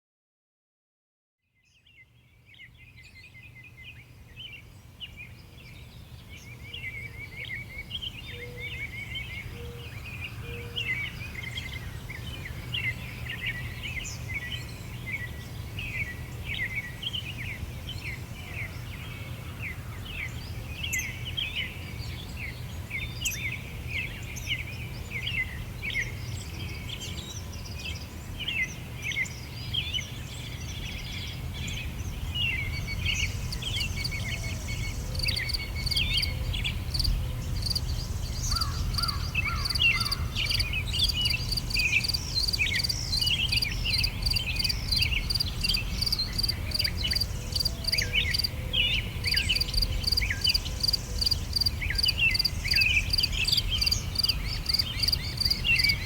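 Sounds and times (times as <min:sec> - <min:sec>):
songbirds chirping and trilling: 0:01.6 - 0:56.0.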